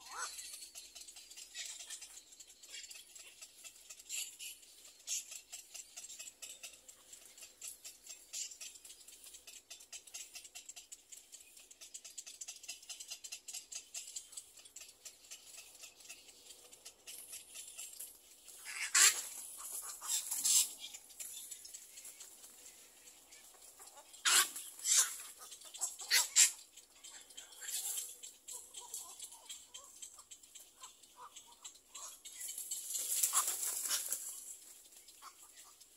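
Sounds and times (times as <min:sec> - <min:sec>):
egret chicks squawking: 0:00.0 - 0:35.9
faint fast ticking: 0:00.3 - 0:35.9.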